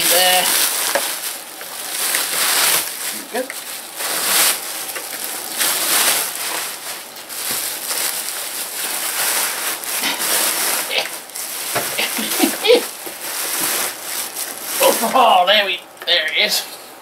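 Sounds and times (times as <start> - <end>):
bubble wrap crinkling: 0.0 - 16.5.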